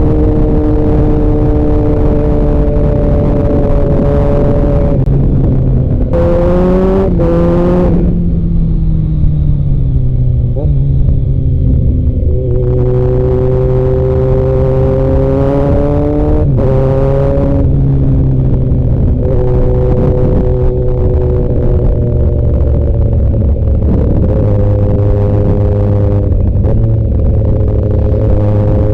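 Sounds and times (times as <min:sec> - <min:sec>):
motorcycle engine shifting gears: 0:00.0 - 0:28.9.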